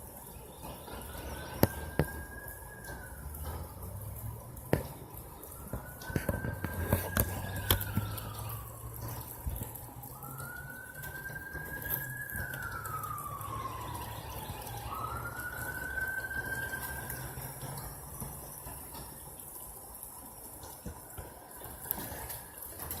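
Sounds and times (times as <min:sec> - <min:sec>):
emergency siren wailing: 0:00.0 - 0:23.0.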